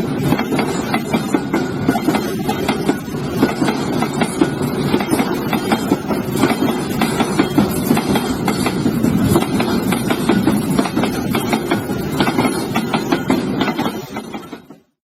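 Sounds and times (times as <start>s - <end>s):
train wheels rumbling: 0.0s - 14.9s
wheels clattering over rail joints: 0.0s - 14.9s.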